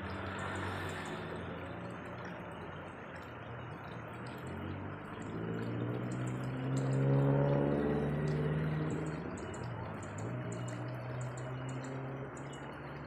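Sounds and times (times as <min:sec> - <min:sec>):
engine hum: 0:00.0 - 0:13.0
flowing water: 0:00.0 - 0:13.0.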